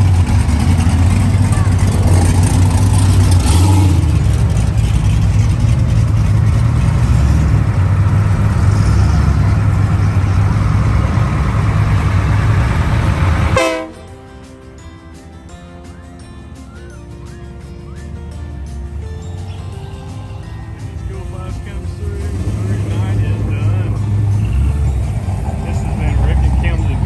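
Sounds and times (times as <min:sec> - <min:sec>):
background music: 0:00.0 - 0:27.0
car engines rumbling: 0:00.0 - 0:27.0.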